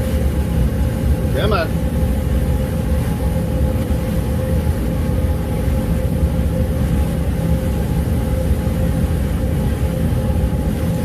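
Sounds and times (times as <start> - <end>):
faint constant hum: 0.0 - 11.0
heater low rumble: 0.0 - 11.0.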